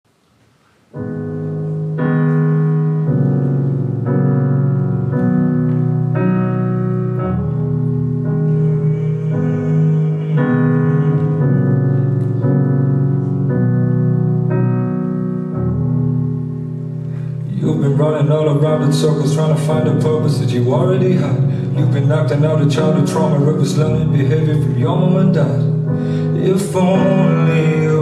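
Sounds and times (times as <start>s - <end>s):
slow piano chords: 0.1s - 28.0s.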